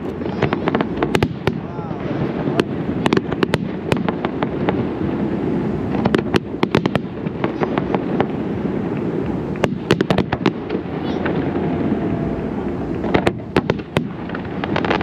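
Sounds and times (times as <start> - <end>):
fireworks bangs and crackles: 0.0 - 15.0
low rumble of booms: 0.0 - 15.0.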